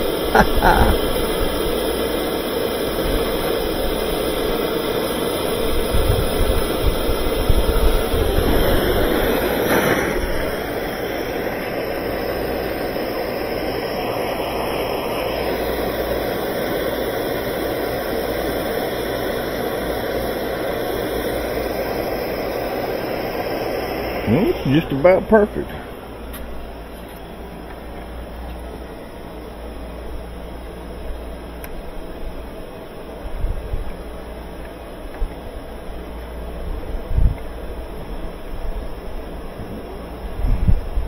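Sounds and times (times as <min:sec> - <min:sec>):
flame rumble: 0:00.0 - 0:41.0
propane torch flame hissing: 0:00.0 - 0:41.0.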